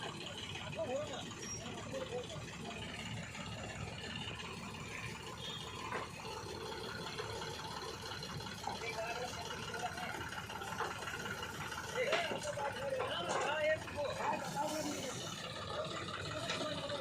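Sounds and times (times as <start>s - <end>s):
diesel engine rumbling: 0.0s - 17.0s
faint voices talking: 0.0s - 17.0s.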